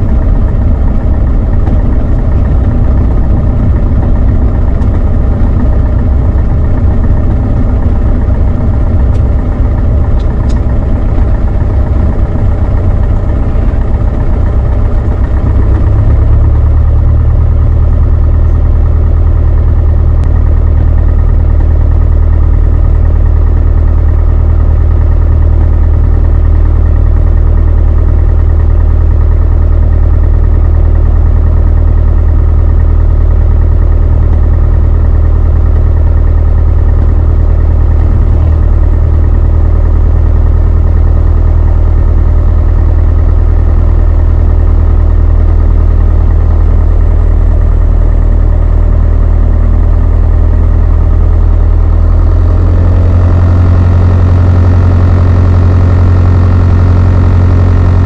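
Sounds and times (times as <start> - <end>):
airplane engine drone in cabin: 0.0 - 58.0.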